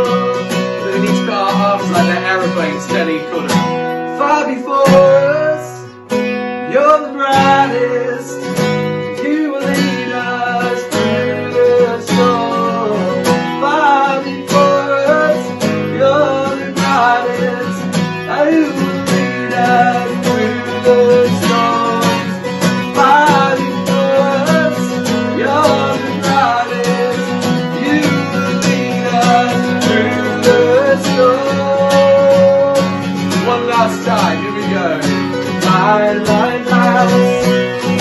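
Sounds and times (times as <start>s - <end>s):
acoustic guitar strumming: 0.0s - 38.0s
person singing: 0.0s - 38.0s.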